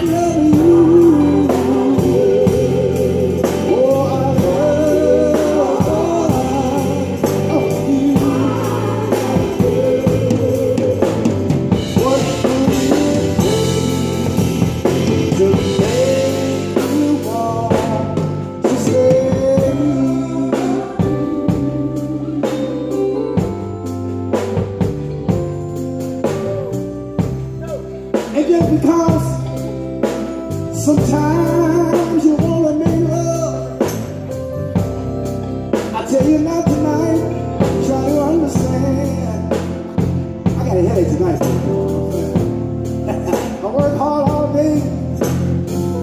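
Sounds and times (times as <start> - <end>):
live band playing instrumental: 0.0 - 46.0.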